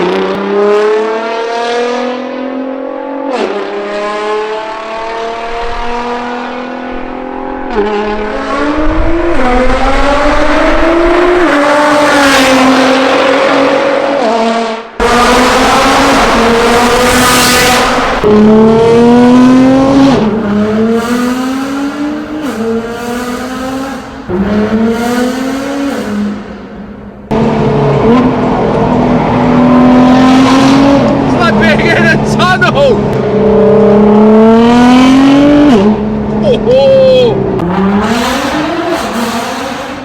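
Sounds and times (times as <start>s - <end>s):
car engine accelerating hard: 0.0s - 36.4s, 37.3s - 40.0s.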